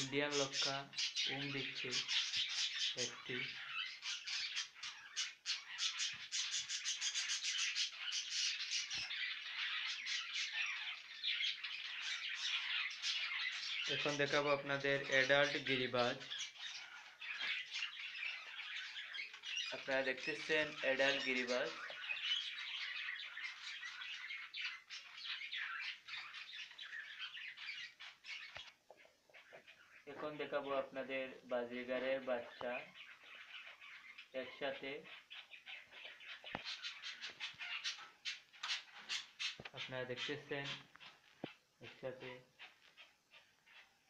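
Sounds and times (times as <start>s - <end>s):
small birds chirping and chattering: 0.0s - 44.0s.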